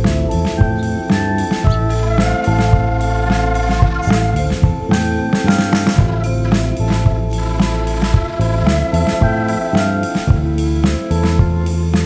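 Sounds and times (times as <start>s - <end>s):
bass line: 0.0s - 12.0s
keyboard music over a beat: 0.0s - 12.0s.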